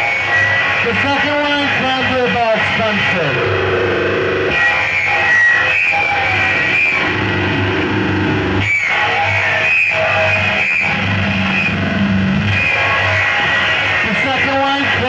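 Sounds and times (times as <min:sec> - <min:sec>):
loud droning noise music: 0:00.0 - 0:15.0.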